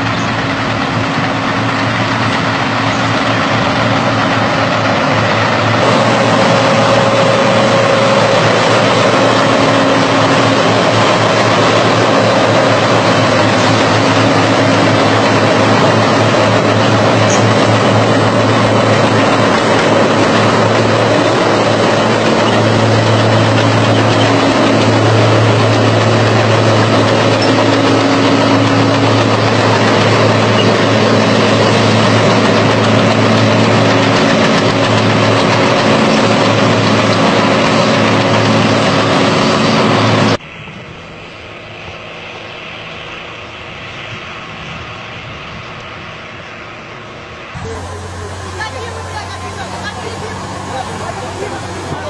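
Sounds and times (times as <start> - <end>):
bulldozer diesel engines droning: 0.0 - 52.0.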